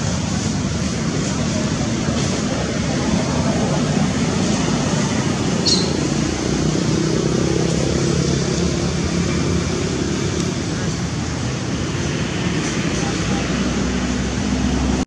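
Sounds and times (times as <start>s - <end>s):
distant traffic rumble: 0.0s - 15.0s
faint engine hum: 0.0s - 15.0s.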